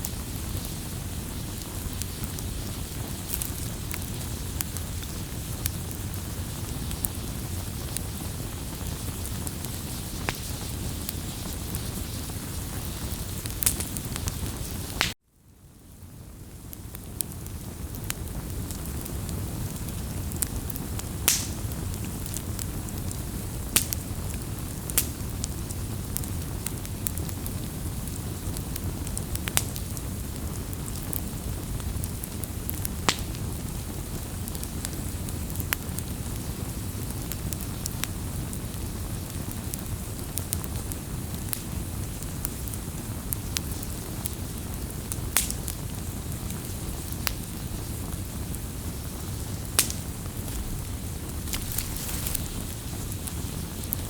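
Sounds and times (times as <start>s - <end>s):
wood fire crackling: 0.0s - 15.2s, 15.8s - 54.0s.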